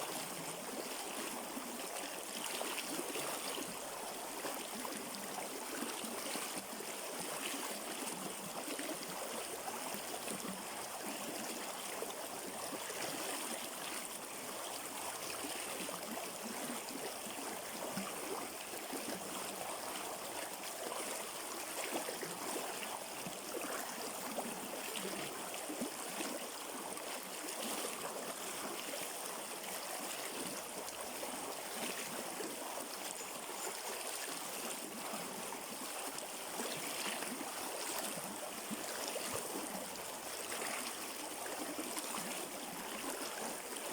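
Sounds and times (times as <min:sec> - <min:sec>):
river water flowing over rocks: 0:00.0 - 0:43.9.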